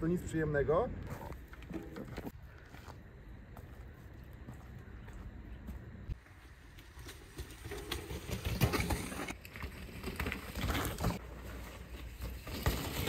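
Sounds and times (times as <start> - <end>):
bike tyres rolling on rough ground: 0.0 - 13.0.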